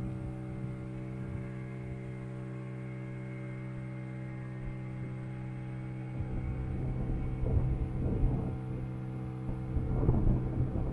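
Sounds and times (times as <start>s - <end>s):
boat motor humming: 0.0s - 10.9s.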